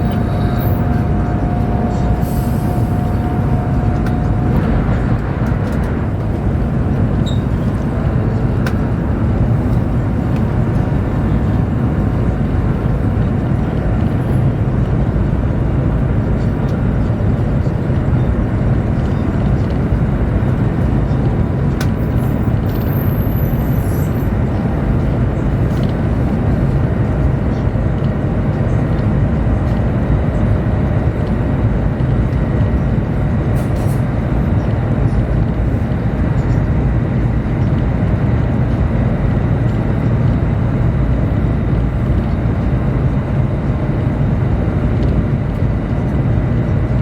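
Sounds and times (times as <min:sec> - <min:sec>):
train rumbling inside cabin: 0:00.0 - 0:47.0.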